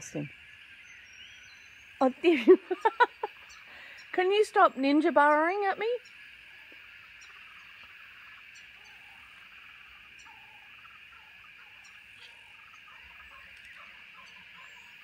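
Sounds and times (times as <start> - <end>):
insect chorus humming: 0.0 - 15.0.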